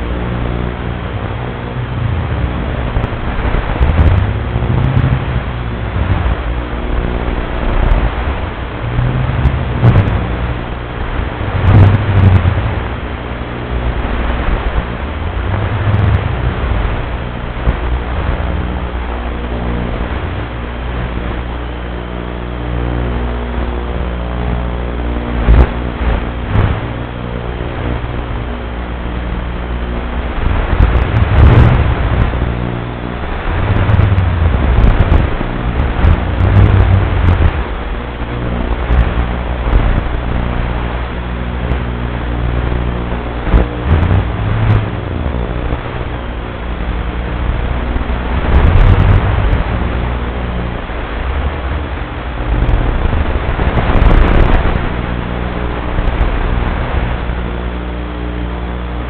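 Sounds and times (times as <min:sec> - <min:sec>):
electrical hum and hiss: 0:00.0 - 0:59.0.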